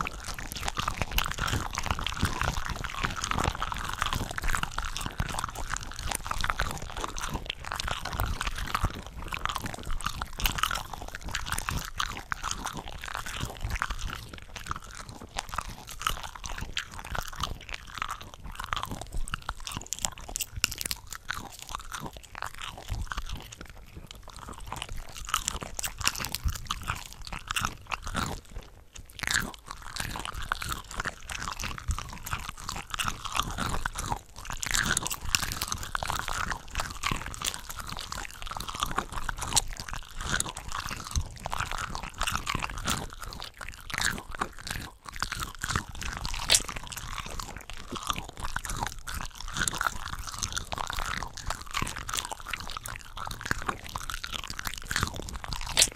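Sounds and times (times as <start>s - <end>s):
chewing shrimp crackles: 0.0s - 55.9s.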